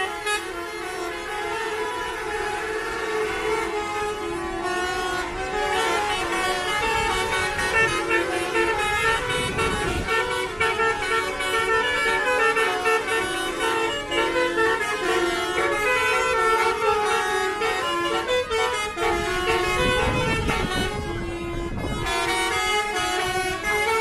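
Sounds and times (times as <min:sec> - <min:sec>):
bus horn playing a tune: 0:00.0 - 0:24.0.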